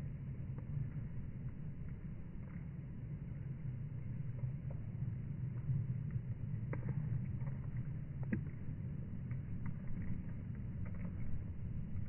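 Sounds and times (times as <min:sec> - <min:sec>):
faint ticks of raindrops: 0:00.0 - 0:12.0.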